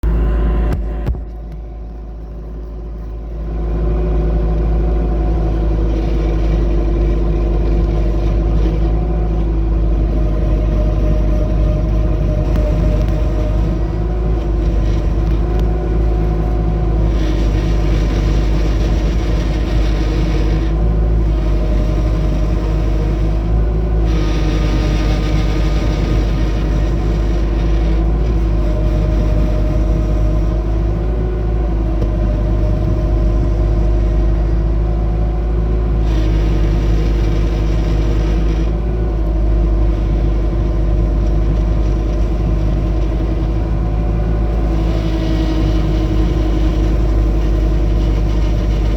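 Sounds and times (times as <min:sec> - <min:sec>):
track loader engine rumbling: 0:00.0 - 0:48.9
loader hissing whine when turning: 0:03.4 - 0:48.9.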